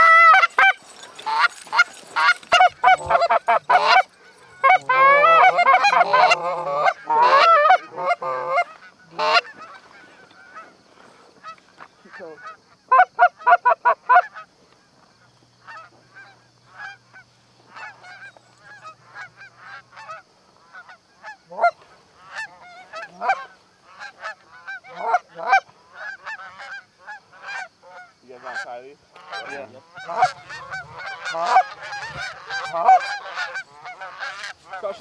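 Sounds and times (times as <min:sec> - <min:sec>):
geese honking: 0:00.0 - 0:10.8, 0:15.6 - 0:35.0.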